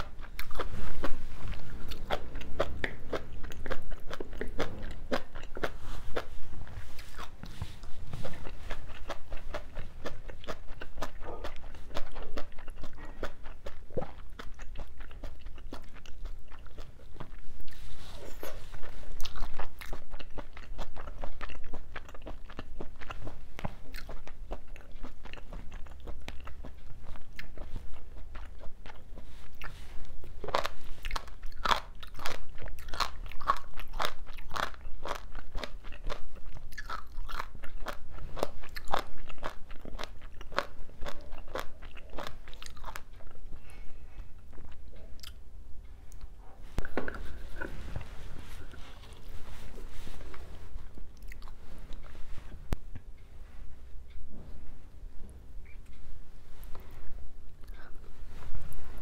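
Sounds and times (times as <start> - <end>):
person chewing crunchy food: 0.0 - 53.1.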